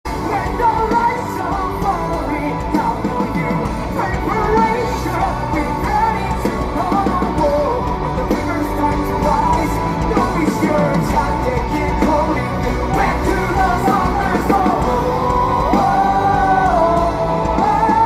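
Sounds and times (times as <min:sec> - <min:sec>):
rock band playing live: 0:00.0 - 0:18.0
person singing: 0:00.1 - 0:18.0.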